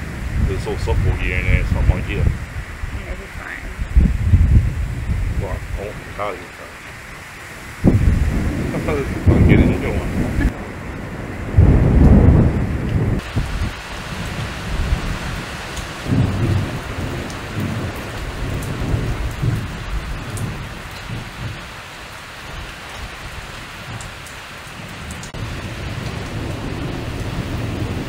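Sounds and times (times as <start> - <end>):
low thunder rolling: 0.0 - 28.0
steady rain falling: 0.0 - 28.0.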